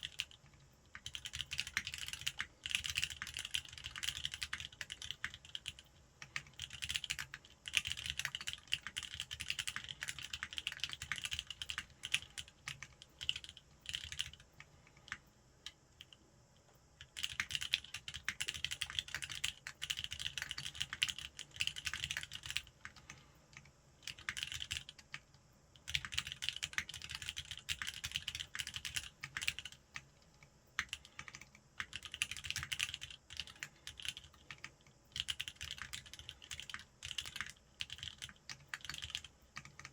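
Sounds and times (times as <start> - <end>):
mechanical keyboard typing: 0.0 - 15.2, 17.0 - 25.2, 25.8 - 30.1, 30.8 - 39.9.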